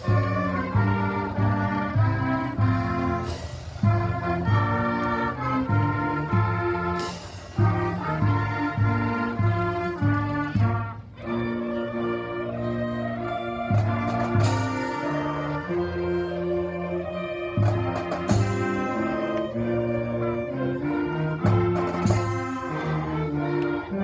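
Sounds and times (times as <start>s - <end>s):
orchestral music with brass: 0.0s - 24.0s.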